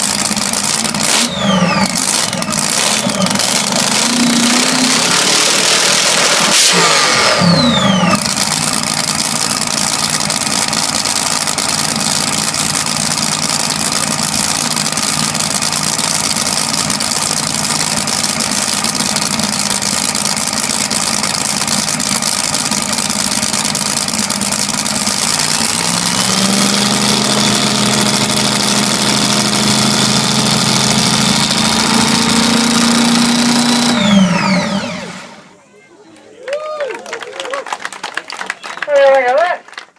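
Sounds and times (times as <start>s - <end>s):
hot rod engine idling: 0.0s - 35.6s.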